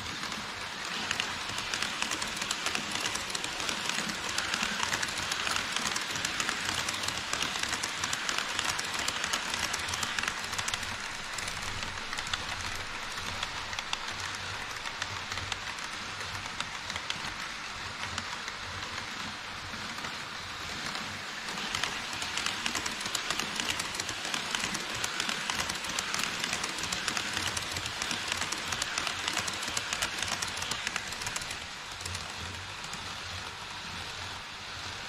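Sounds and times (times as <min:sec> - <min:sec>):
model train wheels clicking on track: 0:00.0 - 0:35.0.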